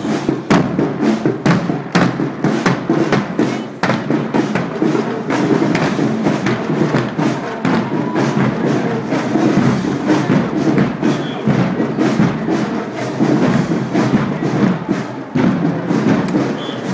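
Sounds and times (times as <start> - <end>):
drums striking a steady beat: 0.0 - 16.9
marching band playing: 0.0 - 16.9.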